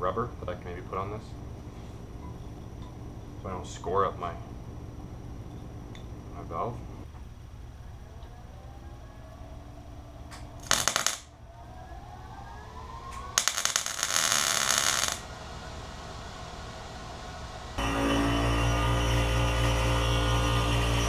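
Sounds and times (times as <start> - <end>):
low workshop hum: 0.0 - 21.0.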